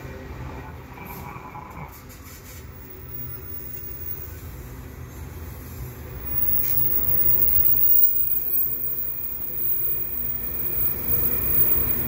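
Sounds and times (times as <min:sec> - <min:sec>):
train wheels rumbling on track: 0:01.9 - 0:12.0.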